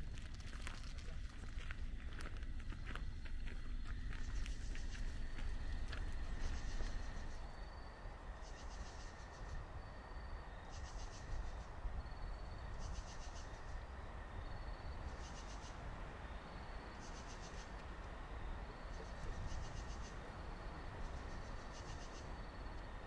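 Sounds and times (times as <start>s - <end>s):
insect pulsed chirp: 0.0s - 23.0s
insect trill: 0.0s - 23.0s
low steady rumble: 0.0s - 23.0s.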